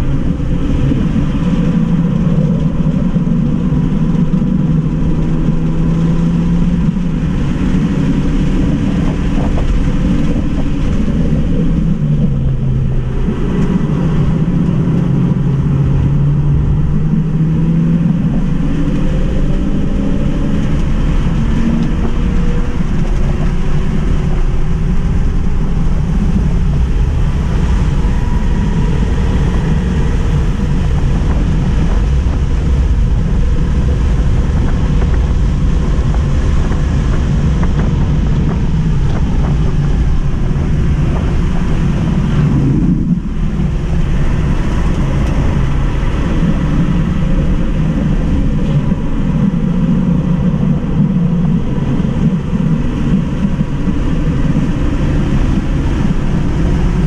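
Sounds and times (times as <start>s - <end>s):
road and tyre noise in car cabin: 0.0s - 57.0s.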